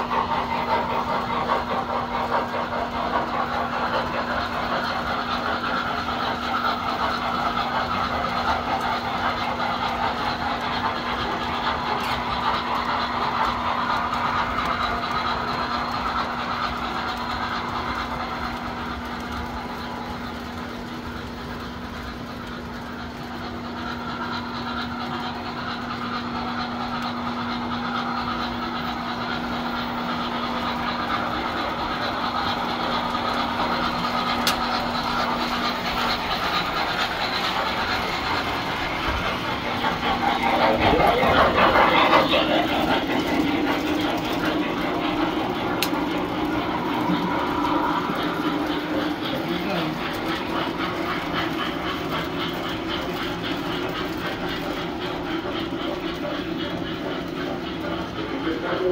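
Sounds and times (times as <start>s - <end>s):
toy trains rumbling on metal track: 0.0s - 58.9s.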